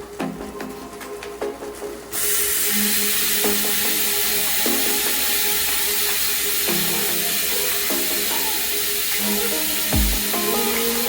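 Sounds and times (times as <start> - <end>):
steady hiss: 0.8 - 11.0.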